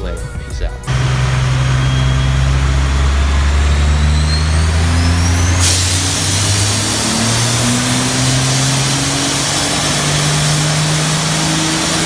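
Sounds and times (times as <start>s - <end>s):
diesel engine running hard: 0.9s - 12.0s
whistle climbing in pitch: 1.0s - 11.6s
fire extinguisher hiss: 1.2s - 12.0s.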